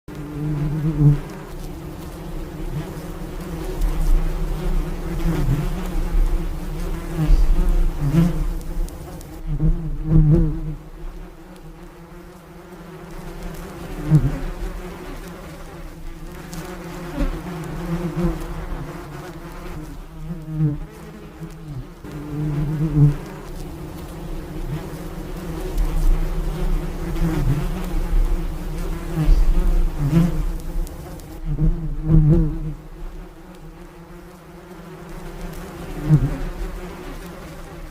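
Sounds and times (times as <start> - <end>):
bees buzzing: 0.1 - 37.9.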